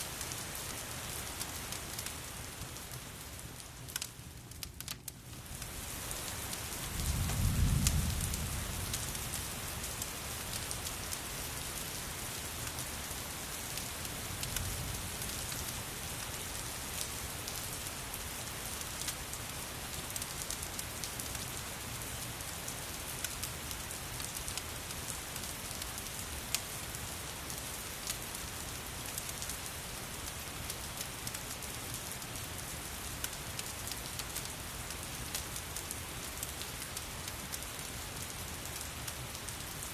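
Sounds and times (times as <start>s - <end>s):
steady rain: 0.0s - 39.9s
fireplace crackling: 0.1s - 21.5s, 22.1s - 28.6s, 33.0s - 39.8s.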